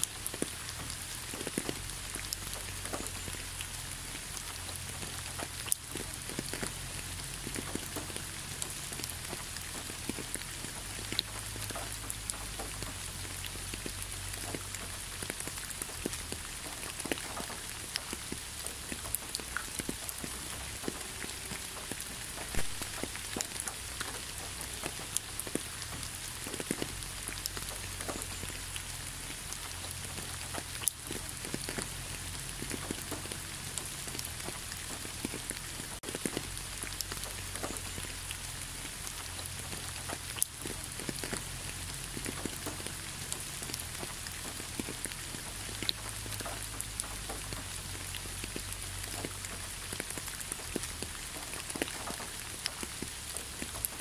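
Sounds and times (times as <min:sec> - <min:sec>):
rain hiss: 0:00.0 - 0:54.0
raindrops ticking: 0:00.0 - 0:54.0.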